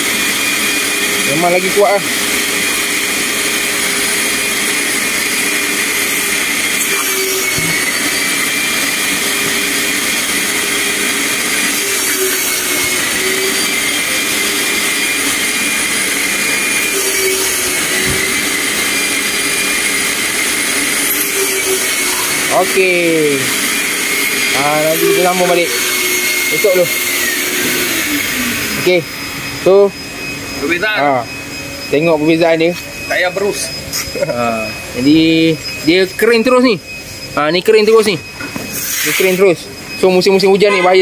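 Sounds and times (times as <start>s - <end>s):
vacuum whining and rushing air: 0.0s - 40.0s.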